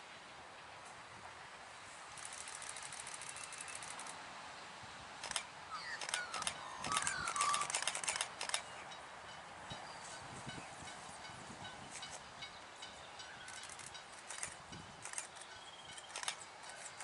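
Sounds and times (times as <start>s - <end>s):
birds clicking and chirping: 2.2s - 4.2s, 5.2s - 17.0s.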